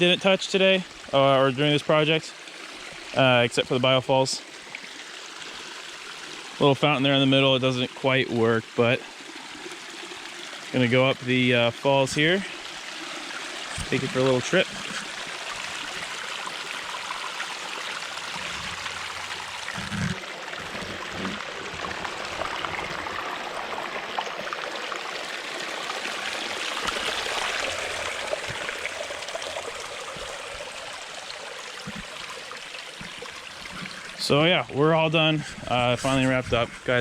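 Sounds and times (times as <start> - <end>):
waterfall splashing over rocks: 0.0 - 37.0.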